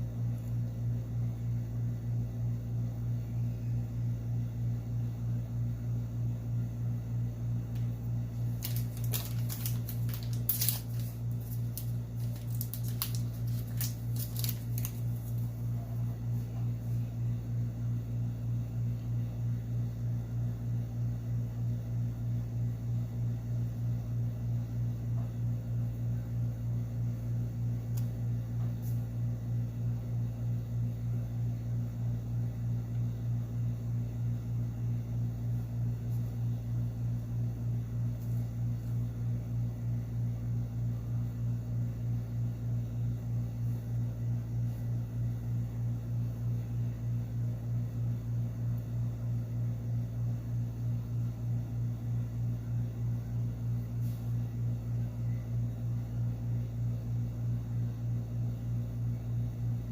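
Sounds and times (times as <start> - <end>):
pulsing low mechanical hum: 0.0 - 59.9.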